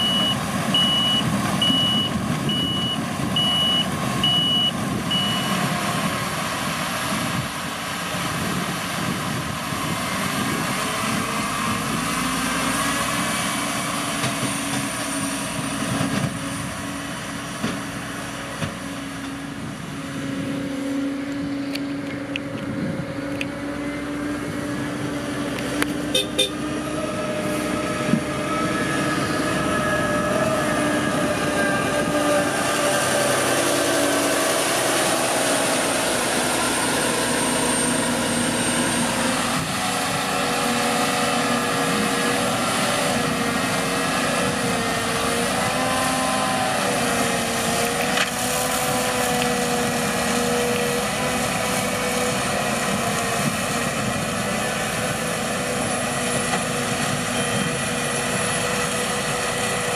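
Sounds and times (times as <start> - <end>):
harvester machine drone: 0.0 - 59.9.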